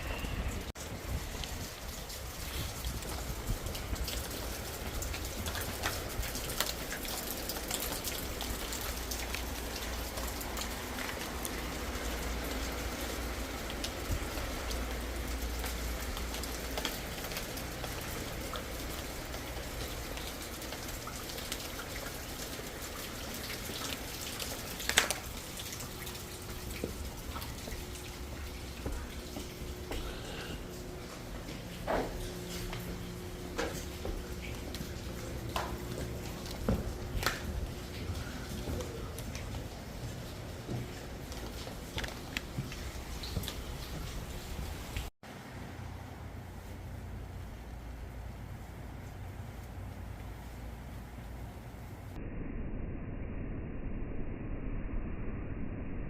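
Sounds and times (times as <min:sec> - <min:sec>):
rain pattering: 0:00.0 - 0:52.2.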